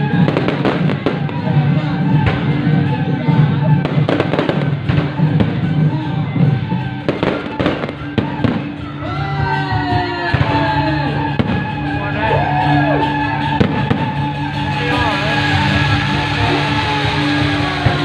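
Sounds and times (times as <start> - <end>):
fireworks banging and crackling: 0.0 - 12.0, 13.1 - 18.0
music playing: 0.0 - 18.0.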